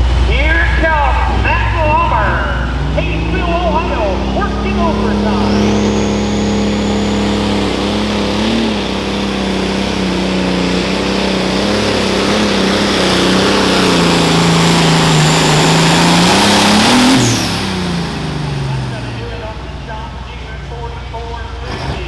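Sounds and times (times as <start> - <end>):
high turbo whine: 0.0 - 22.0
tractor engine under full load: 0.0 - 22.0.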